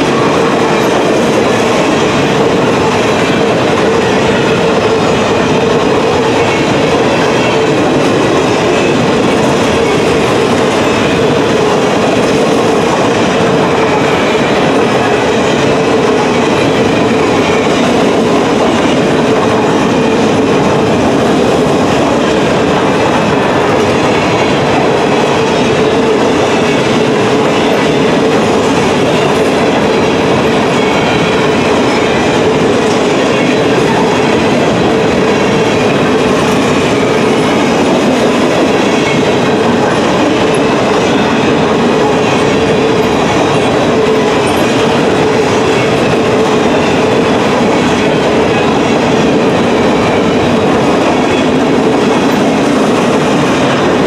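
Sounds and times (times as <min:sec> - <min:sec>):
freight train wheels rattling: 0:00.0 - 0:54.0.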